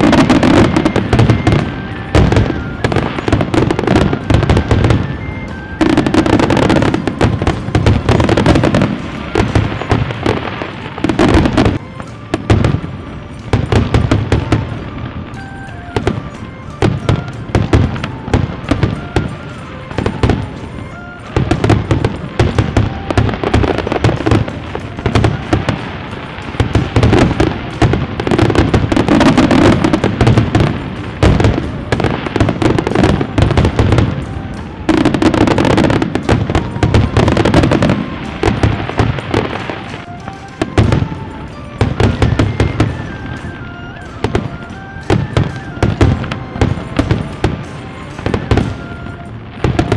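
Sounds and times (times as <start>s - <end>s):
fireworks bangs and crackles: 0.0s - 49.9s
music playing: 0.0s - 49.9s.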